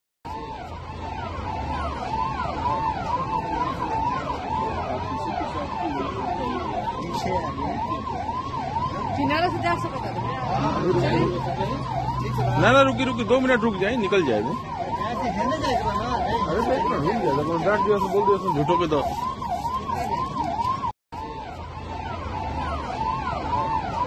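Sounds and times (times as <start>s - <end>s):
sirens wailing: 0.3s - 24.0s.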